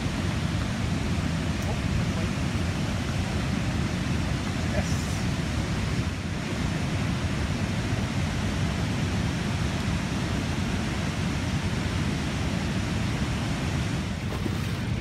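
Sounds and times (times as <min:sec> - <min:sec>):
churning whitewater: 0:00.0 - 0:15.0
wind: 0:00.0 - 0:15.0.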